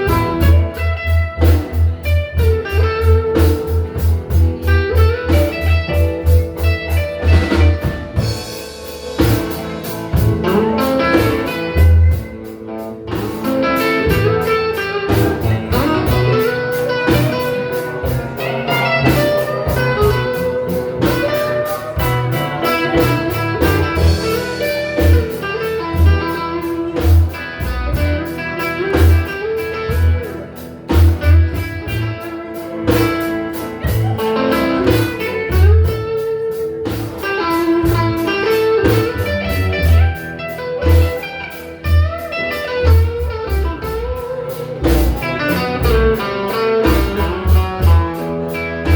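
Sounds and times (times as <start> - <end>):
blues band playing: 0.0 - 48.9.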